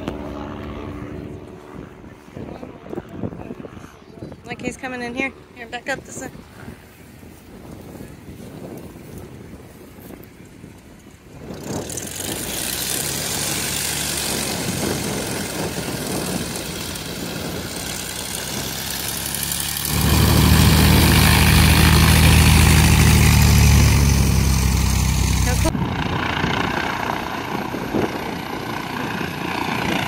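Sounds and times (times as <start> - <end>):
propeller plane engine: 0.0 - 30.0.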